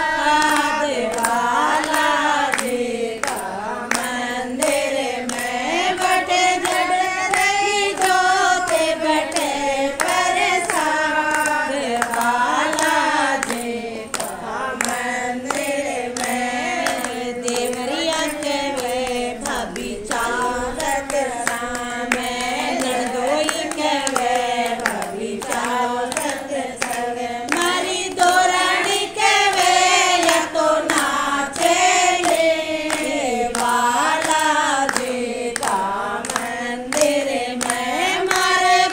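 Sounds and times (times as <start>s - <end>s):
people singing devotional song: 0.0s - 38.9s
rhythmic hand clapping: 0.0s - 38.9s.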